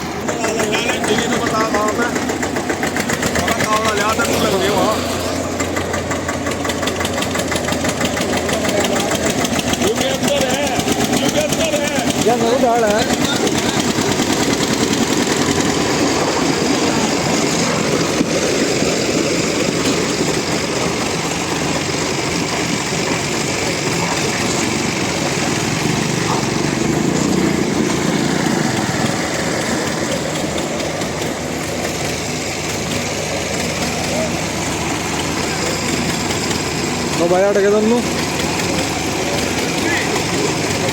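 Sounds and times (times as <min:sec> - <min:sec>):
diesel tractor engines under load: 0:00.0 - 0:40.9.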